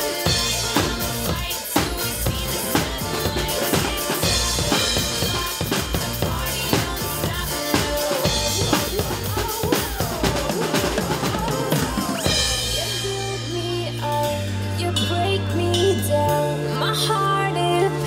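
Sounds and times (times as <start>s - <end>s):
drum kit playing a steady beat: 0.0s - 18.0s
recorded backing music: 0.0s - 18.0s.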